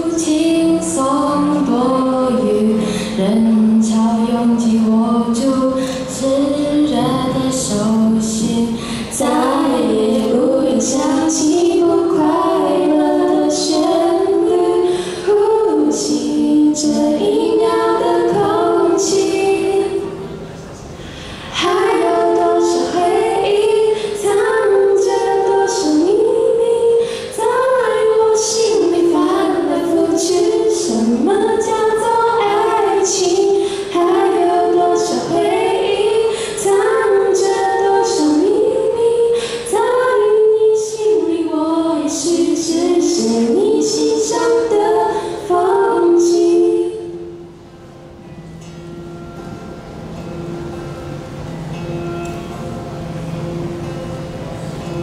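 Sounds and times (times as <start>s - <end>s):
girl singing pop ballad: 0.0s - 20.3s, 21.1s - 47.4s.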